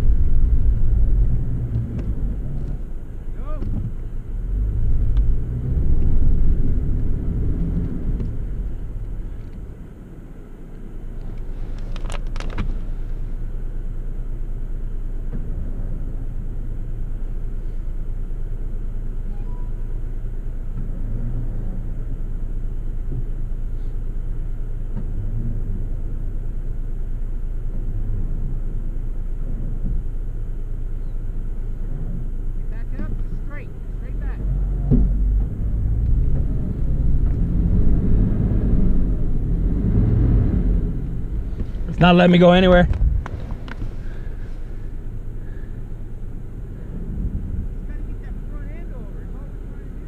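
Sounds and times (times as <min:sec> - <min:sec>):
car engine in snow: 0:00.0 - 0:50.0.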